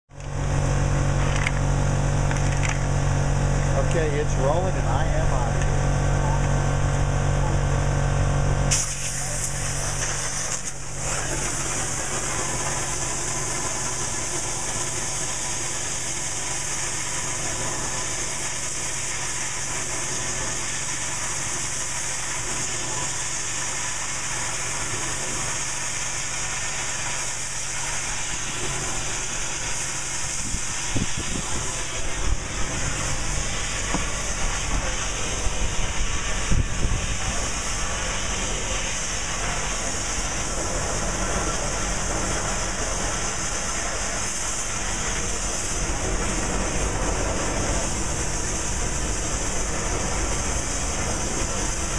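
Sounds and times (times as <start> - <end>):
machine hum: 0.1 - 51.9
arc cutting torch hissing: 0.2 - 51.9.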